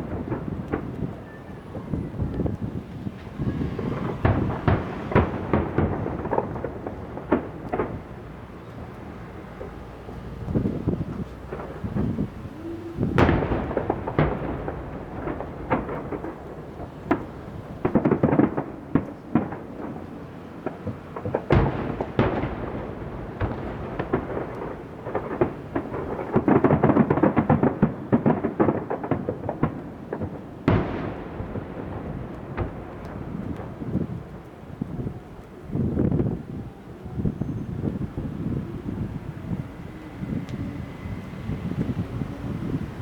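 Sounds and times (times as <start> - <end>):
rumbling echo: 0.0 - 36.5
fireworks bursting with bangs: 0.0 - 43.0.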